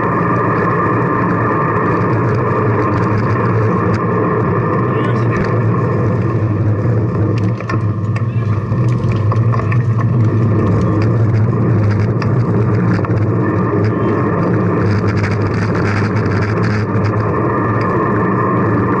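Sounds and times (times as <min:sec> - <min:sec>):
low traffic hum: 0:00.0 - 0:19.0
scattered clicks and rattles: 0:00.0 - 0:19.0.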